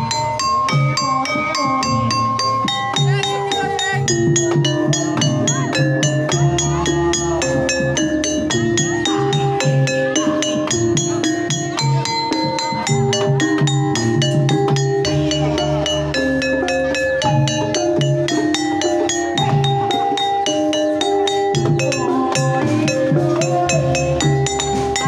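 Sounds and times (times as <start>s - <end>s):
tuned mallet percussion: 0.0s - 25.0s.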